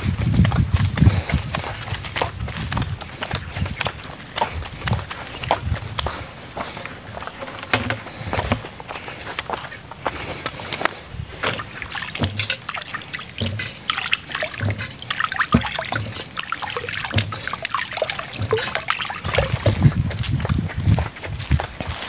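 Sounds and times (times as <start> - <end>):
footsteps wading through water: 0.0 - 7.4, 8.4 - 22.0.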